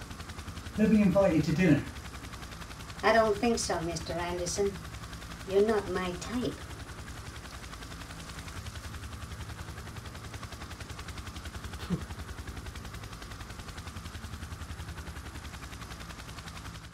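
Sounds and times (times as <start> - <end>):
helicopter rotor thudding: 0.0 - 16.6.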